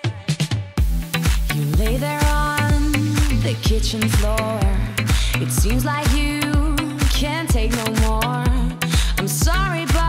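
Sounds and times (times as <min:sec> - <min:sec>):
person singing: 0:00.0 - 0:10.0
pop music with drum beat: 0:00.0 - 0:10.0.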